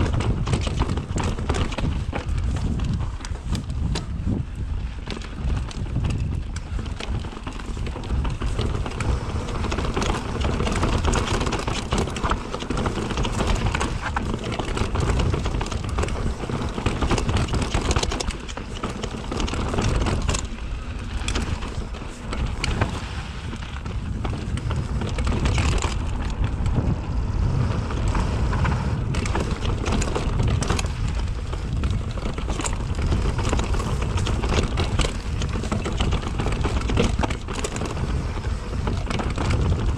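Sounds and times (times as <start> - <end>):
bike knocks and rattles: 0.0 - 39.9
bike tyres rolling over stone: 0.0 - 39.9
wind rumble on microphone: 0.0 - 39.9.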